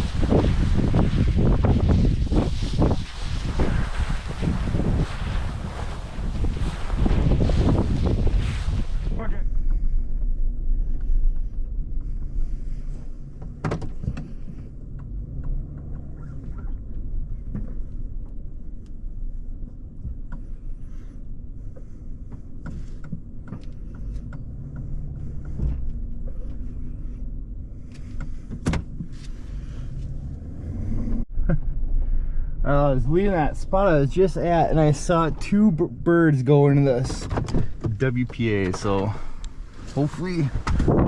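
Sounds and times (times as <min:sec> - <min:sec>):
engine and road rumble: 0:00.0 - 0:41.0.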